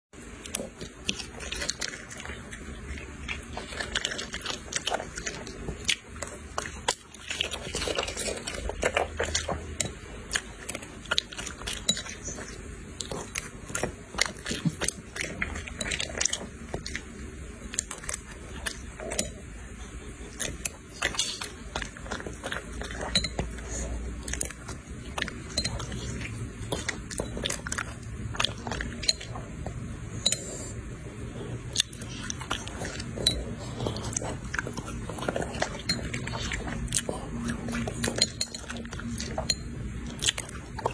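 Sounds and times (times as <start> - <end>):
dog chewing and smacking: 0.3 - 30.7, 31.3 - 40.9.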